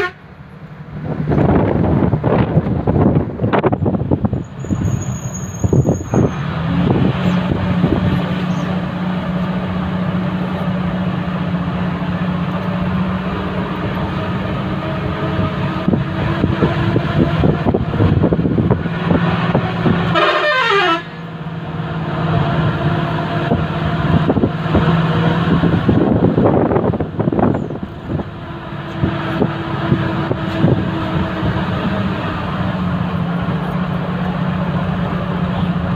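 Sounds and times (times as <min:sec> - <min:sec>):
vehicle engine humming: 0:00.0 - 0:35.9.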